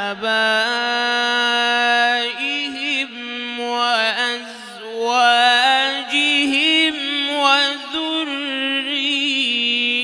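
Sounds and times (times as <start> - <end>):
man chanting recitation: 0.0 - 10.0.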